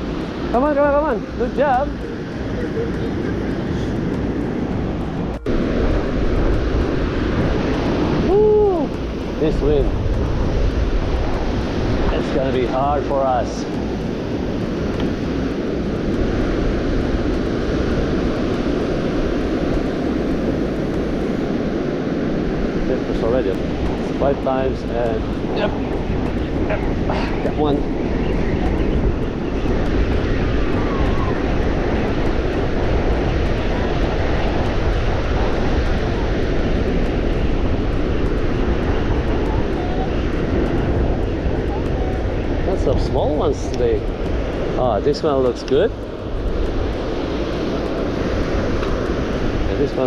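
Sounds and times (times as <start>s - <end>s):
gusting wind on microphone: 0.0s - 50.0s.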